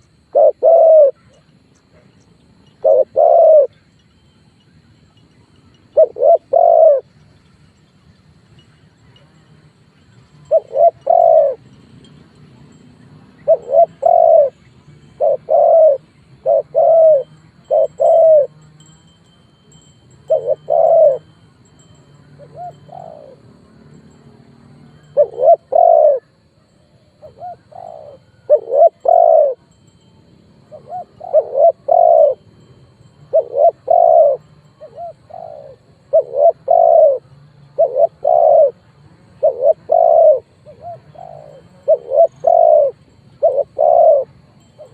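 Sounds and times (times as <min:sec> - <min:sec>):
dove cooing: 0:00.0 - 0:04.0, 0:05.7 - 0:07.2, 0:10.3 - 0:12.0, 0:12.6 - 0:18.7, 0:20.1 - 0:29.8, 0:30.6 - 0:44.9.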